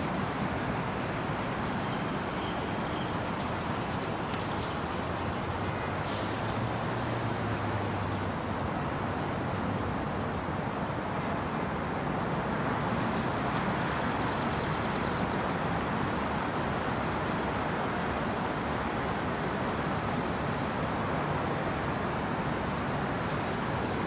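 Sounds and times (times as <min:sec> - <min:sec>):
city traffic noise: 0:00.0 - 0:24.0.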